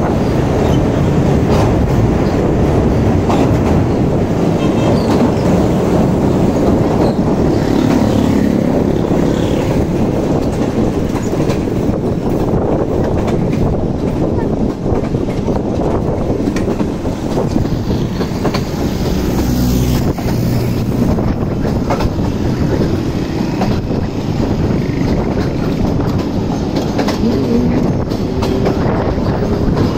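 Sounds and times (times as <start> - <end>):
train wheels rumbling on track: 0.0 - 29.9
wheels clattering over rail joints: 0.0 - 29.9.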